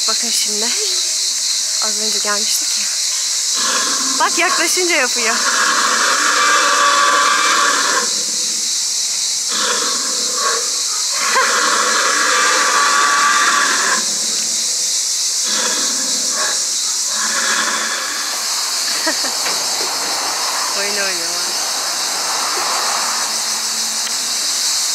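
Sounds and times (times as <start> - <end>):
cicadas hissing: 0.0 - 24.9.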